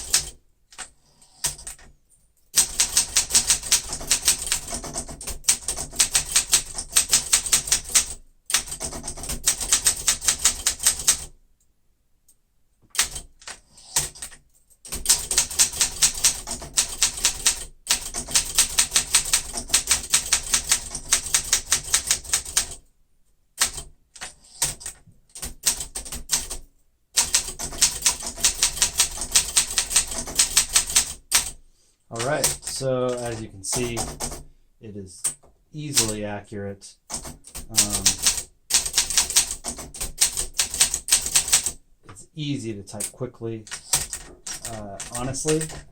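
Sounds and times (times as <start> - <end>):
manual typewriter typing: 0.0 - 1.9, 2.6 - 11.3, 12.9 - 22.8, 23.6 - 26.6, 27.2 - 34.4, 35.2 - 36.3, 37.0 - 41.8, 42.9 - 45.9.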